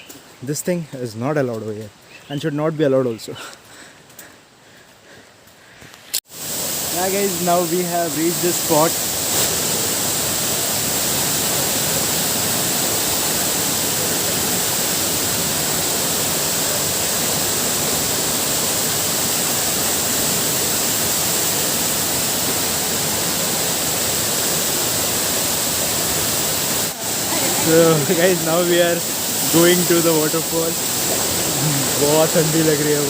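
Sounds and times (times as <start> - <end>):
waterfall rushing: 6.3 - 33.0.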